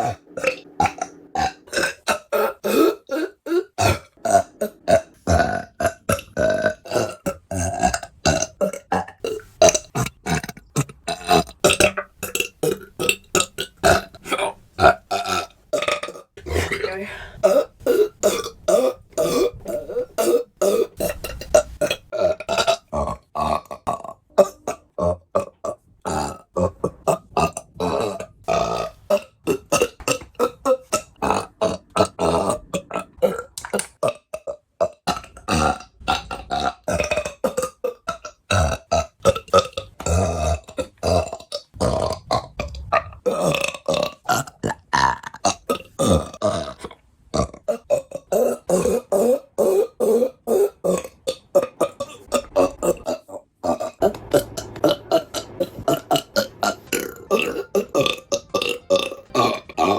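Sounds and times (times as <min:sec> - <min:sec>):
woman burping: 0:00.0 - 0:59.9.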